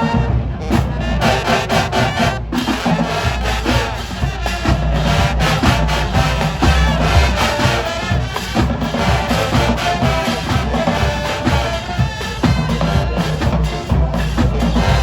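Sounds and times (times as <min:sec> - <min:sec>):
brass section: 0:00.0 - 0:15.0
marching drums: 0:00.0 - 0:15.0.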